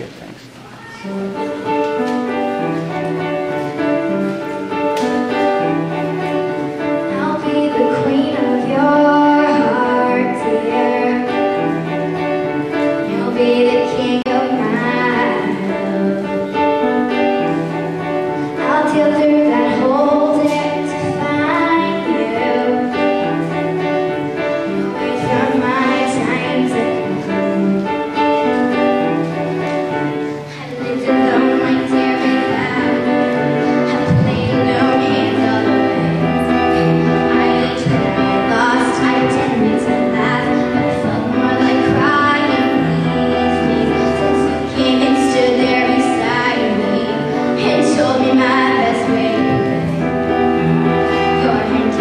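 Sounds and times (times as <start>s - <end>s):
upright piano playing: 0.0s - 52.0s
girl singing: 0.8s - 52.0s.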